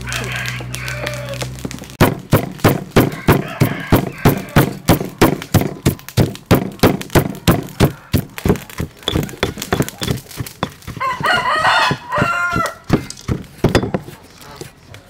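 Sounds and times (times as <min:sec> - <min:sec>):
cleaver chopping on wooden board: 0:02.0 - 0:14.2
pestle pounding in stone mortar: 0:02.0 - 0:14.2.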